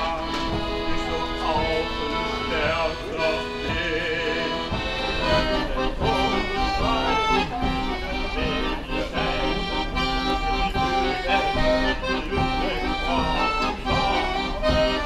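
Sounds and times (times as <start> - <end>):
accordion melody: 0.0 - 15.0.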